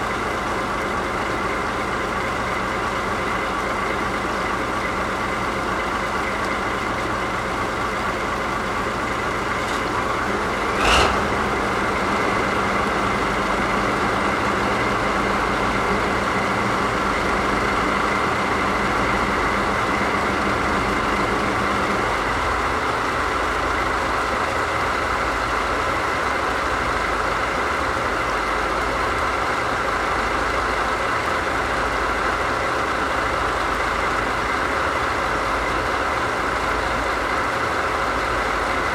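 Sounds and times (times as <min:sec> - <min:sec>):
locomotive diesel engines idling: 0:00.0 - 0:38.9.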